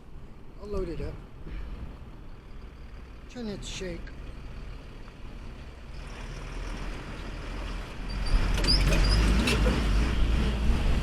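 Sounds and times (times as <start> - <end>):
vehicle passing on road: 1.0 - 11.0.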